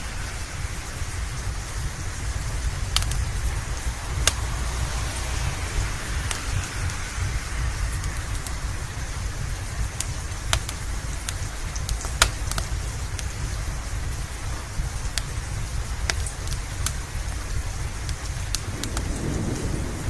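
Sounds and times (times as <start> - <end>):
constant low rumble: 0.0 - 20.0
steady rain: 0.0 - 20.0
wood fire crackling: 0.0 - 20.0.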